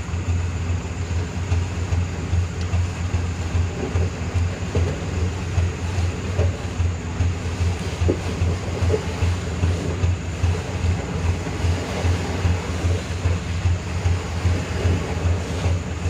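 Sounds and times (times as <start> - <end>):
truck diesel engine labouring: 0.0 - 16.0.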